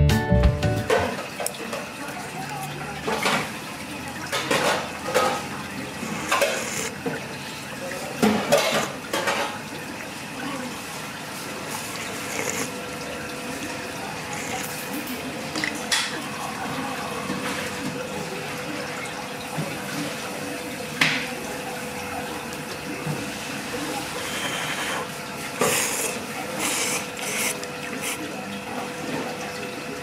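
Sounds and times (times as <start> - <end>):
running water: 0.9 - 30.0.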